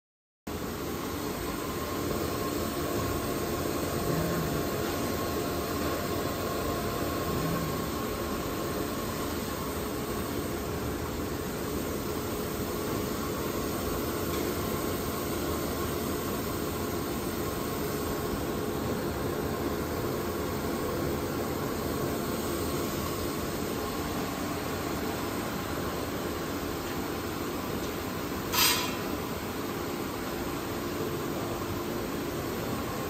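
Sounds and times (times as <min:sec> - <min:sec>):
grinder machine whooshing hum: 0:00.5 - 0:30.3.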